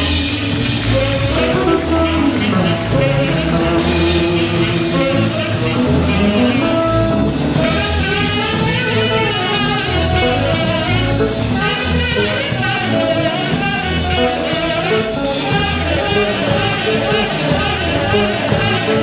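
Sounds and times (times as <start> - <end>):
live rock band playing: 0.0 - 19.0
saxophone lead: 0.0 - 19.0.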